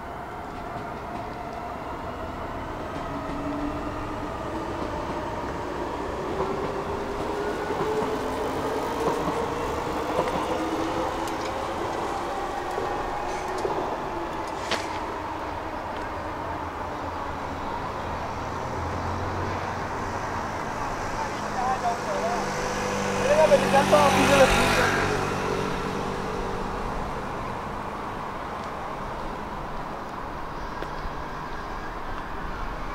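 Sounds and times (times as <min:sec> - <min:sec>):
train rumble: 0:00.0 - 0:31.3.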